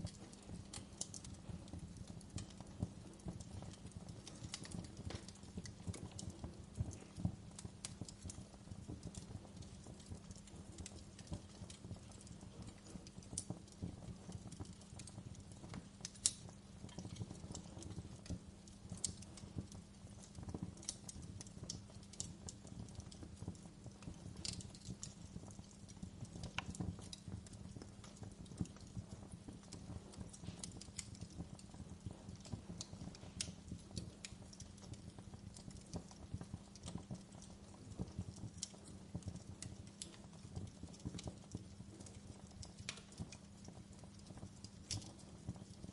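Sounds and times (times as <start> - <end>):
low rumble of burning: 0.0 - 45.9
wood fire crackling and popping: 0.0 - 45.9.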